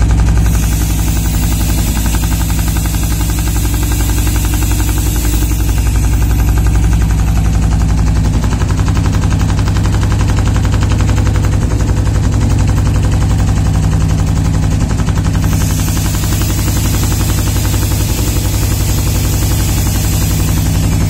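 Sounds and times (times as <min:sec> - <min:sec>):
low machine hum: 0:00.0 - 0:21.0
machine punching holes: 0:00.0 - 0:21.0.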